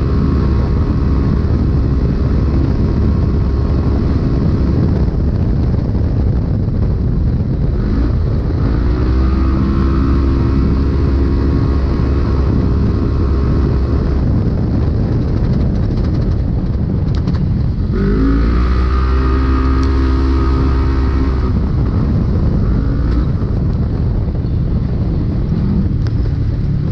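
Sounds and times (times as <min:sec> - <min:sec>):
low rumble from chassis: 0:00.0 - 0:26.9
vehicle engine running hard: 0:00.0 - 0:26.9.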